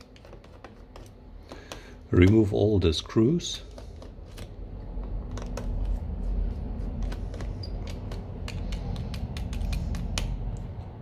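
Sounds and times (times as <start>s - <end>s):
low steady rumble: 1.2s - 11.0s.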